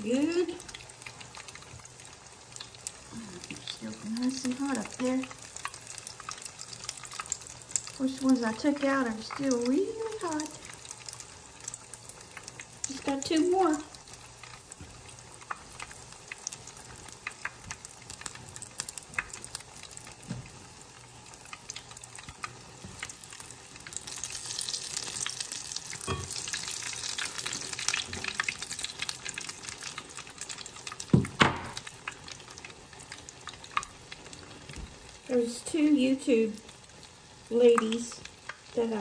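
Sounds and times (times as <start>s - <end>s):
deep-frying sizzle with pops: 0.0s - 39.0s.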